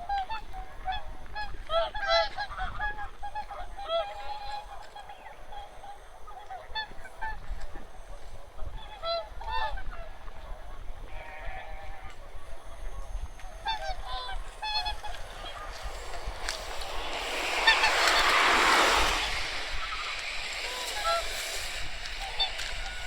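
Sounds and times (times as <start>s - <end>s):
waterfowl honking: 0.0s - 23.0s.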